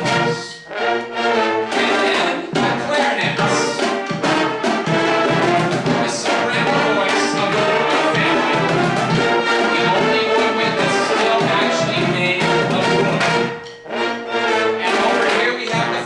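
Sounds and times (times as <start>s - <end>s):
brass melody: 0.0s - 16.0s
drum strikes: 0.0s - 16.0s.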